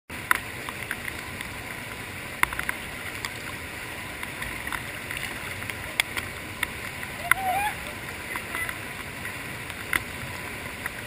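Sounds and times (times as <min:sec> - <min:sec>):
water splashing ticks: 0:00.1 - 0:11.0
waterfall rushing into pool: 0:00.1 - 0:11.0.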